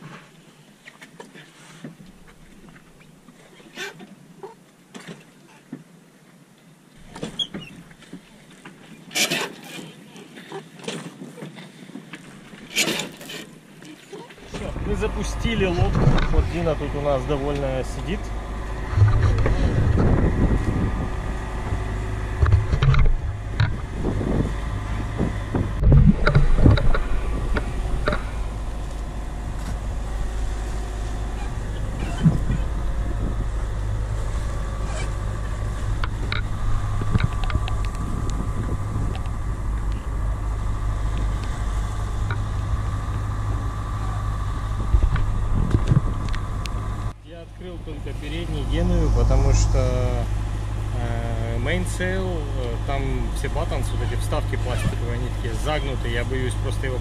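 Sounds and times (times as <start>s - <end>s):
boat engine droning: 6.8s - 57.0s.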